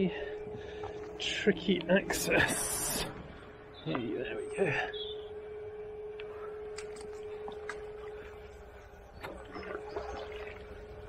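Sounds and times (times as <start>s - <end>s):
steady mid-pitched hum: 0.0s - 11.0s.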